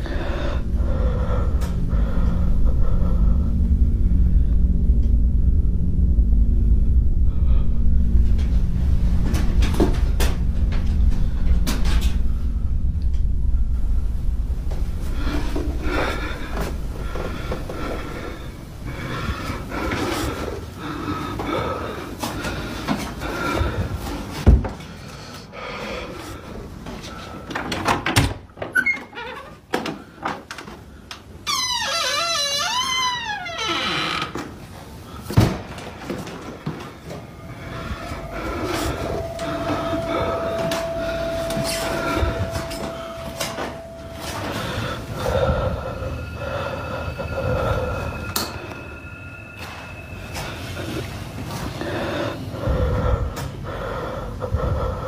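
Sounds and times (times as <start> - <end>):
faint steady whine: 0.0 - 27.6, 30.9 - 55.0.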